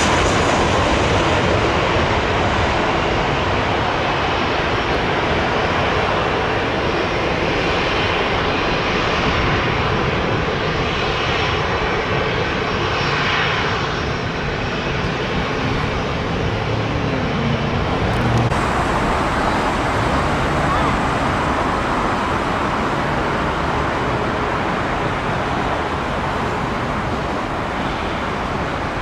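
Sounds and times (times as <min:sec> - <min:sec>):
jet airliner engines roaring: 0:00.0 - 0:29.0.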